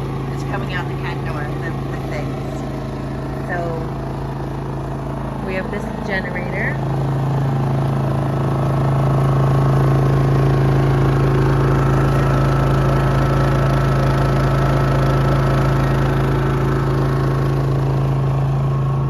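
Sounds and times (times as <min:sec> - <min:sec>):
generator engine humming: 0:00.0 - 0:19.0.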